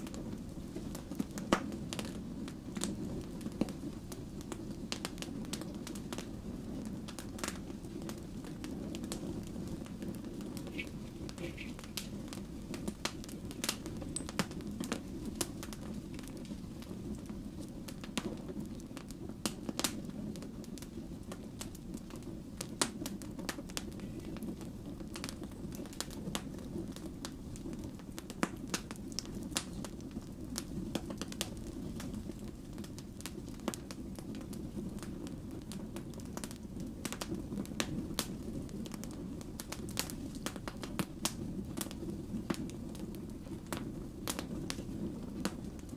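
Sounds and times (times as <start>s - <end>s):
fire crackling and popping: 0.0s - 45.9s
flames rushing: 0.0s - 45.9s.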